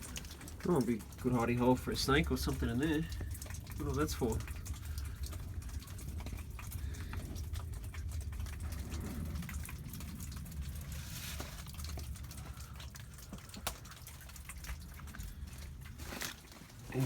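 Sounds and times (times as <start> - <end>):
steady low rumble: 0.0 - 16.0
creek trickling: 0.0 - 17.0
ticks and crackles: 0.0 - 17.0.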